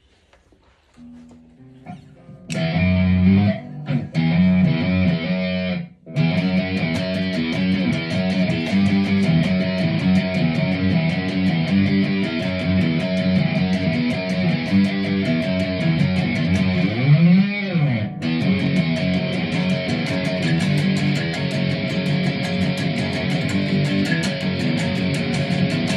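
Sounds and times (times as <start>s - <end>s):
distorted electric guitar: 1.0s - 25.9s.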